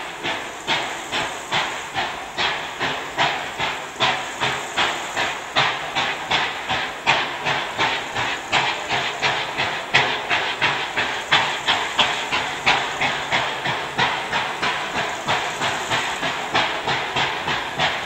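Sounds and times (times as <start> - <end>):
steam locomotive chuffing: 0.0 - 18.0.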